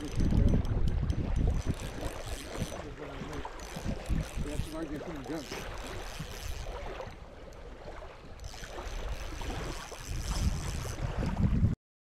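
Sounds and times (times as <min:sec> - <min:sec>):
small waves lapping: 0:00.0 - 0:11.8
wind buffeting microphone: 0:00.0 - 0:11.8.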